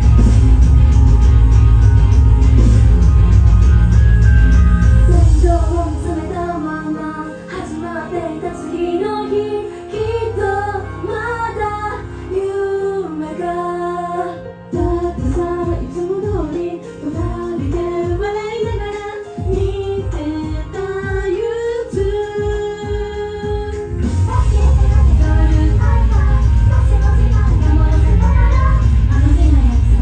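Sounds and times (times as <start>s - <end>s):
loud backing music: 0.0s - 30.0s
woman singing into microphone: 5.0s - 30.0s.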